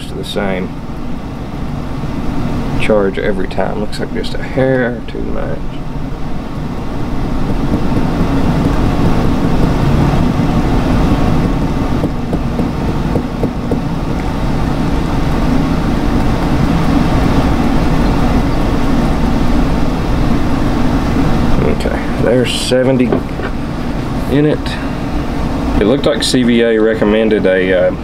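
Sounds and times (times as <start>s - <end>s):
low rumbling background noise: 0.0s - 28.0s.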